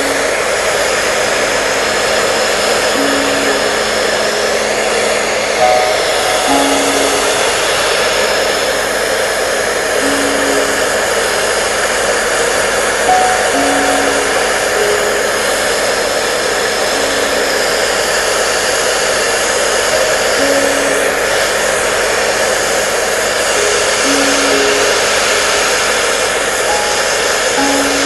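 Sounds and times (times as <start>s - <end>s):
faint slow melody: 0.0s - 28.0s
hair dryer blowing: 0.0s - 28.0s.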